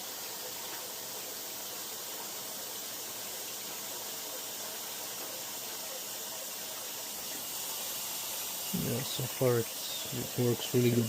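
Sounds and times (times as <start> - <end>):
water running into washer tub: 0.0 - 11.0.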